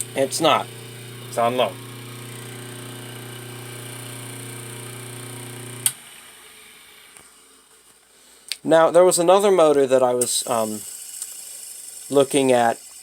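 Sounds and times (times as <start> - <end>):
motor whirring down: 0.0 - 7.7, 10.2 - 13.0
electric motor humming: 0.0 - 7.8, 10.0 - 13.0.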